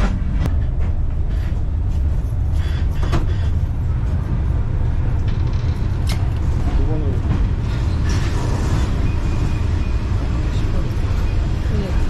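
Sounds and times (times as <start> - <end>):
train carriage rumble: 0.0 - 12.0.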